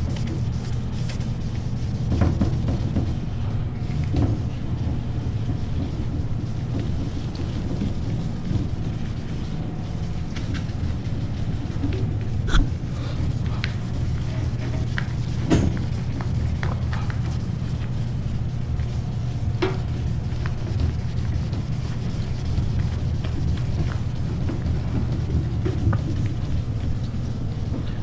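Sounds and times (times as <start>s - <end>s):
wet sanding by hand: 0.0s - 3.3s, 4.0s - 12.6s, 13.2s - 27.8s
low steady hum: 0.0s - 28.0s.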